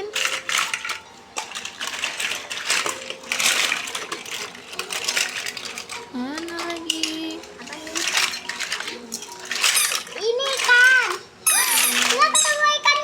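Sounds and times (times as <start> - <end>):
plastic toys clattering: 0.0 - 13.0.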